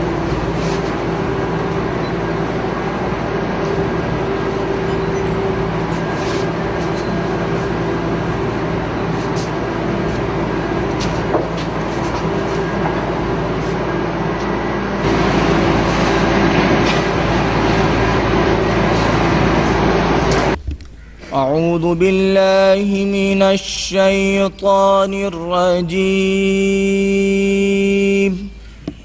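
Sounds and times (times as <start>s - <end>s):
low rumble with droning hum: 0.0s - 29.0s.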